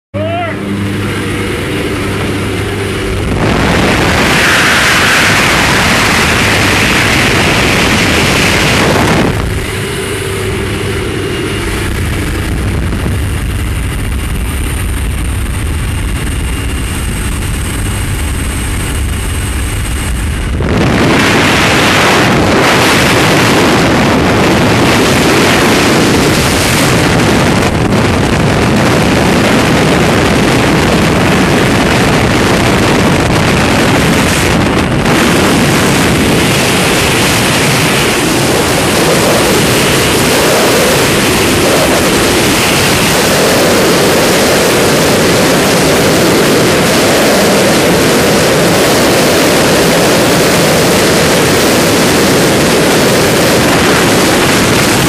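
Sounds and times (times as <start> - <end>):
propeller plane engine drone: 0.1 - 55.0
wind rushing: 0.4 - 55.0.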